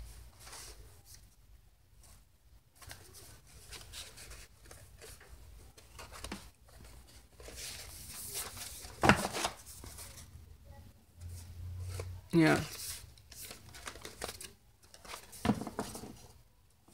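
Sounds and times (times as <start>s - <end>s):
paper pages rustling and scraping: 0.3s - 1.3s, 2.8s - 10.3s, 11.2s - 16.4s.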